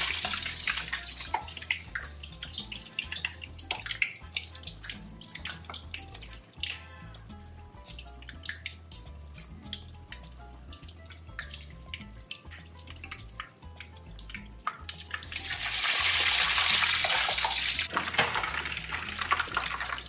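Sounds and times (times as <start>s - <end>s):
faint background music: 0.0s - 20.0s
oil sizzling loudly: 0.0s - 20.0s.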